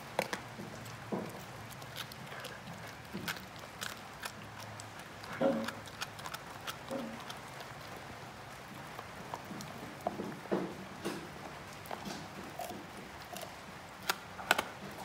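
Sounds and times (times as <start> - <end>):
dog crunching a bone: 0.0 - 15.0.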